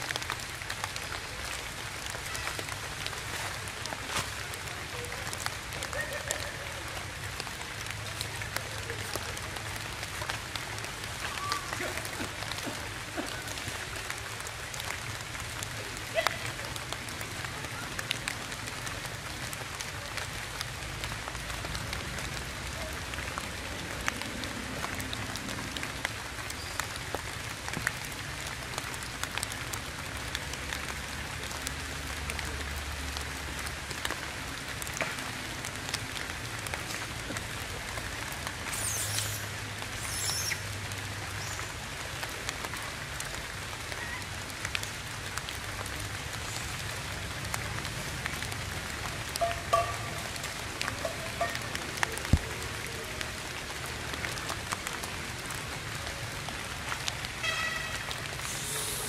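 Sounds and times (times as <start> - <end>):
rain falling through trees: 0.0 - 59.0.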